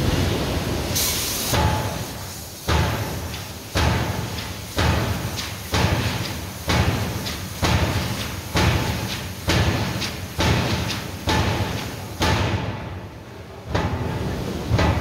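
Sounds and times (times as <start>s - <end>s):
forging hammer striking steel: 1.6s - 13.0s, 13.7s - 15.0s.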